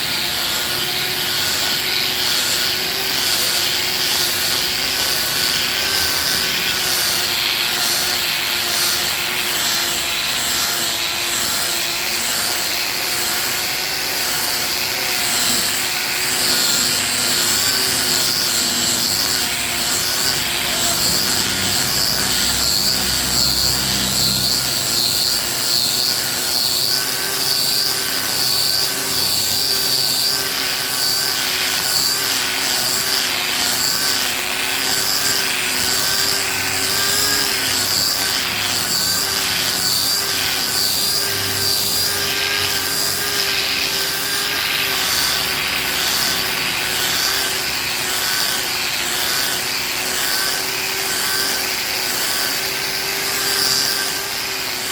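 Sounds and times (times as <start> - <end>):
angle grinder motor whine: 0.0 - 54.9
sanding disc rasping on wood: 0.0 - 54.9.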